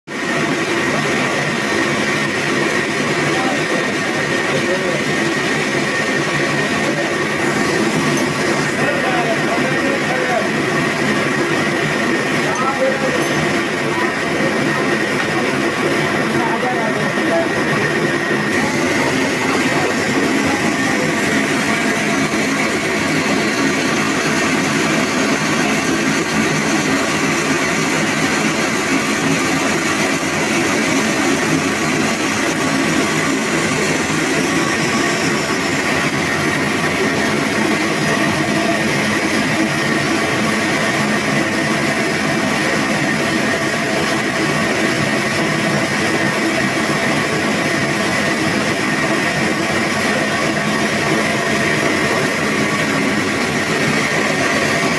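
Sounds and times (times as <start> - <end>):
sawmill saw whining: 0.2 - 54.9.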